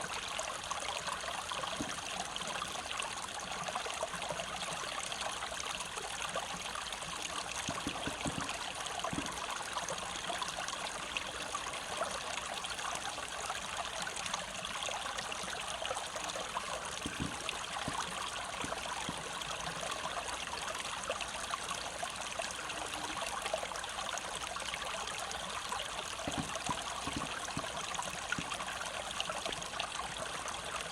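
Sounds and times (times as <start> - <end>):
brook running water: 0.0 - 30.9.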